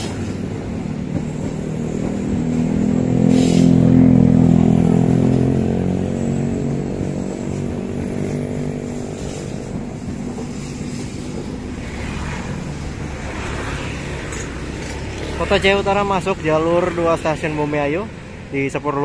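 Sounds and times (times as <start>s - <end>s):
diesel locomotive engine hum: 0.0s - 19.0s
train wheels rumbling on rails: 0.0s - 19.0s.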